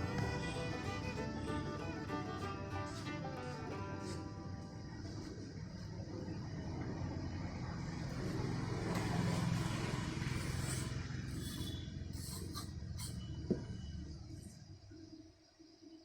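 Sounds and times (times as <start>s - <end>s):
low engine rumble: 0.0s - 15.1s.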